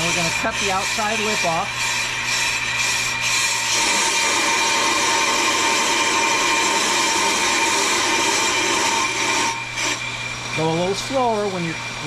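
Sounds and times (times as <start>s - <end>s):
brake lathe scraping rotor: 0.0s - 11.9s
steady machine whine: 0.0s - 12.0s.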